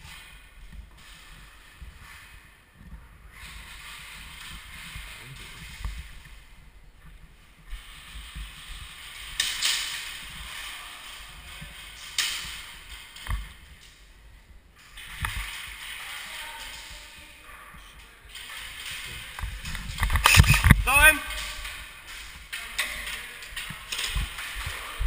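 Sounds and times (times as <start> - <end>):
clothing and gear rustling: 0.0 - 25.0.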